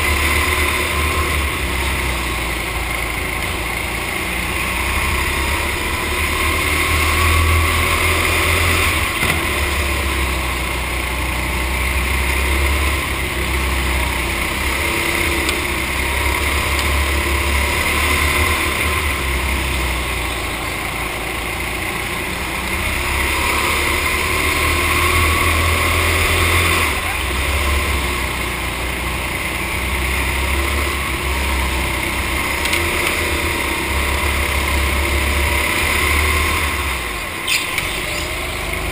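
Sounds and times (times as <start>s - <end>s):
go-kart engine racing: 0.0s - 38.9s.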